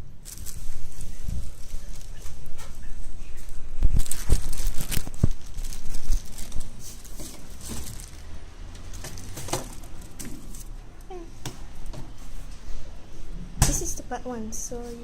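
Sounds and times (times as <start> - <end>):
material crinkling and rustling: 0.0 - 12.6.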